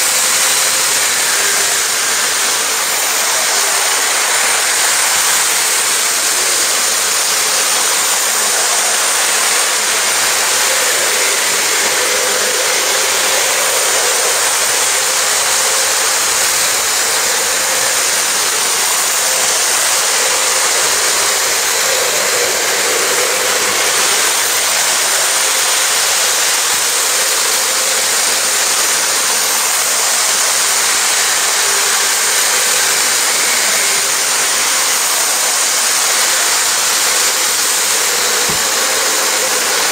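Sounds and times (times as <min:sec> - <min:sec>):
model train wheels rolling: 0:00.0 - 0:39.9.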